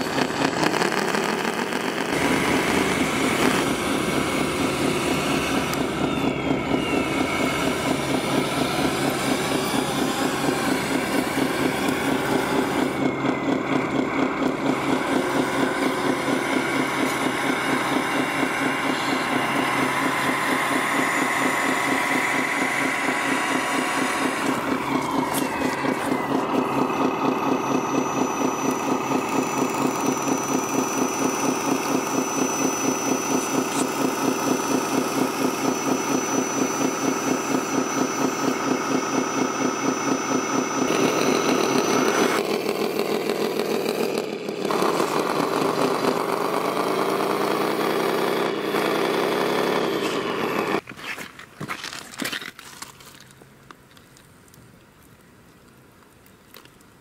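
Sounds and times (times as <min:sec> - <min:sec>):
toy truck engine chugging: 0:00.0 - 0:50.8.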